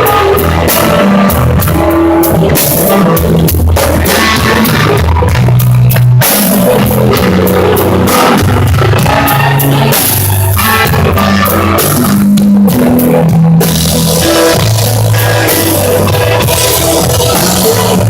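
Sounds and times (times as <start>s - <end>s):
drum kit and cymbals: 0.0s - 18.0s
electric guitar: 0.0s - 18.0s
low bass line: 0.0s - 18.0s.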